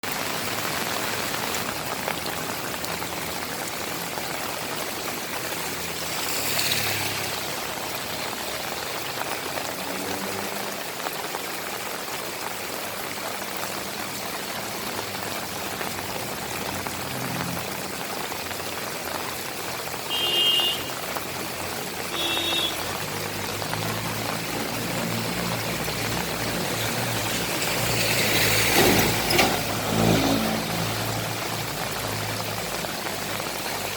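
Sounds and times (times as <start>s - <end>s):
rain falling: 0.0s - 33.9s
running water: 0.0s - 33.9s.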